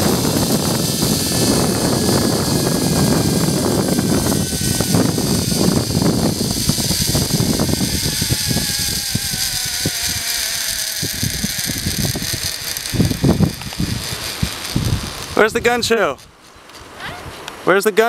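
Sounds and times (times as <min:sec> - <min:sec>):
short rattles: 0:00.0 - 0:15.5
zipline pulleys whining on cable: 0:00.0 - 0:16.2
wind rushing: 0:00.0 - 0:16.4.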